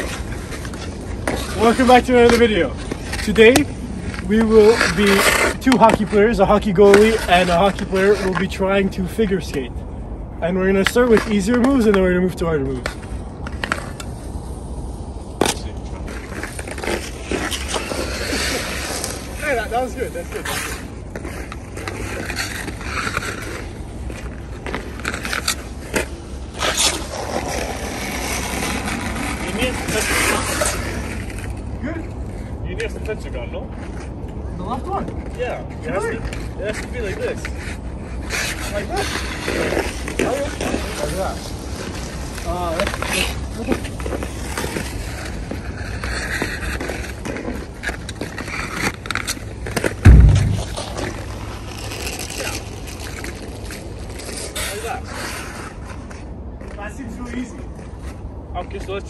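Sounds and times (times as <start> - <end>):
ice skates scraping on ice: 0.0 - 9.8, 10.4 - 59.0.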